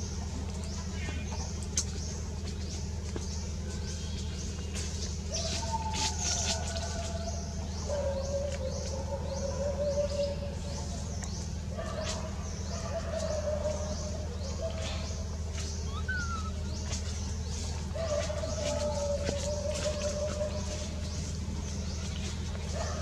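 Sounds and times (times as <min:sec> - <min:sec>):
birds chirping: 0:00.0 - 0:23.0
steady low hum: 0:00.0 - 0:23.0.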